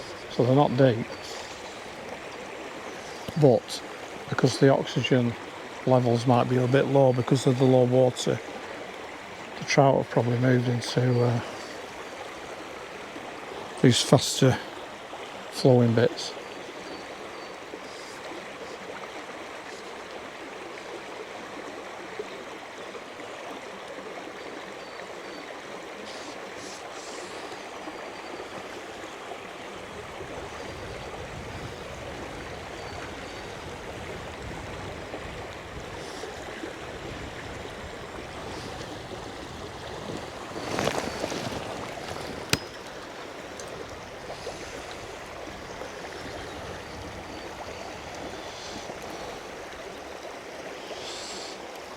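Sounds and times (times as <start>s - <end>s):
river water rushing over rocks: 0.0s - 51.9s.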